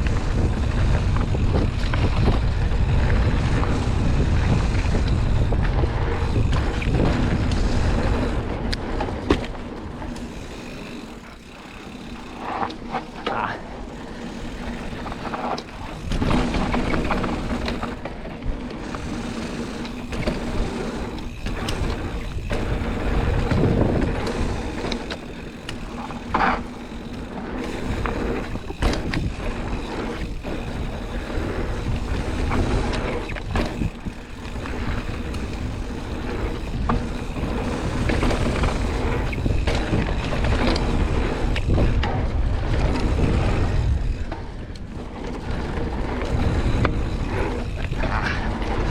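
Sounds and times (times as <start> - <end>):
wind buffeting microphone: 0.0 - 12.4, 13.1 - 48.9
bike rattling over bumps: 0.0 - 48.9
tyres rumbling over dirt: 0.0 - 48.9.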